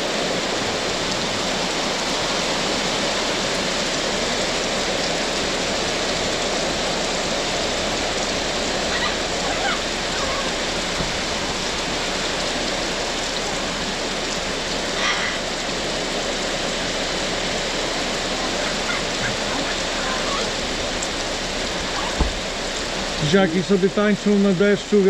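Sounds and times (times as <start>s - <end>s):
heavy rain splashing on pavement: 0.0s - 25.0s.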